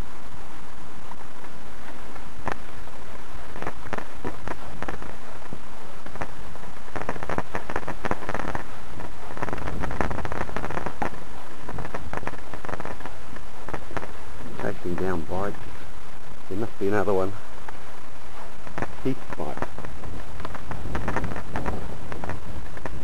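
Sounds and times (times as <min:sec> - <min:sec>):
wind on microphone: 0:00.0 - 0:23.0
microphone handling crackles: 0:01.0 - 0:23.0.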